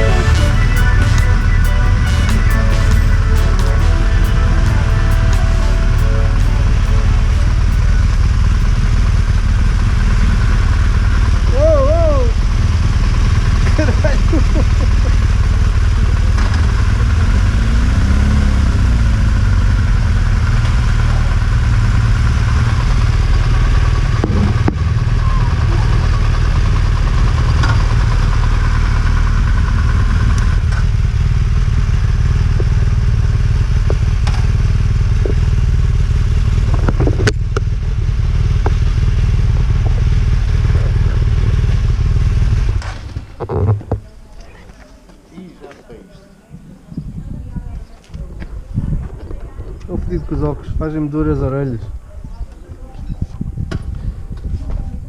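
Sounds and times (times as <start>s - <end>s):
motorcycle engine rumbling: 0.0s - 44.3s.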